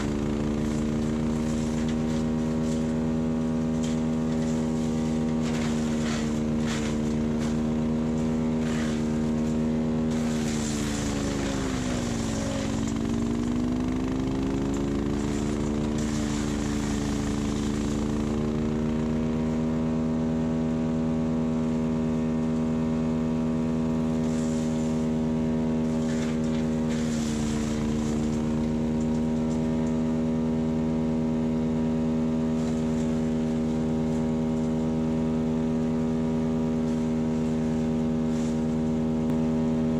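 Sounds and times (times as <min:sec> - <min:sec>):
tractor engine running: 0:00.0 - 0:39.9
wood chipper crackling and grinding: 0:00.0 - 0:39.9.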